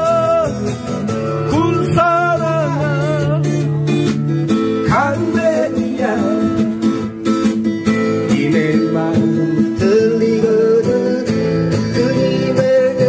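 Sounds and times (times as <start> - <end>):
man singing: 0.0 - 7.2, 7.9 - 13.0
acoustic guitar strumming: 0.0 - 13.0.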